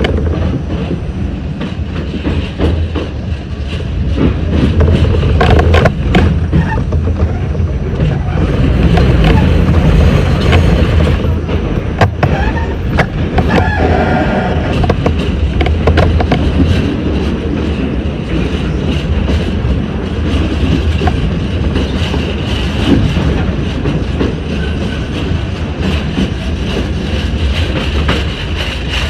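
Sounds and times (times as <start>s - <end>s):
sharp rail clacks: 0.0s - 29.0s
subway wheels rumbling on rails: 0.0s - 29.0s.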